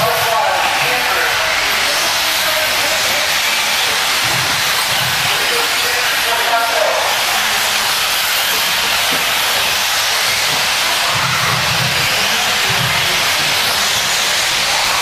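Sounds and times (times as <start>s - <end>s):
rc car motors hissing: 0.0s - 15.0s.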